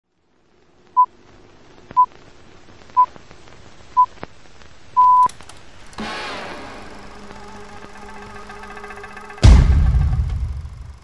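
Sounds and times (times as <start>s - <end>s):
faint hiss: 0.1s - 11.0s.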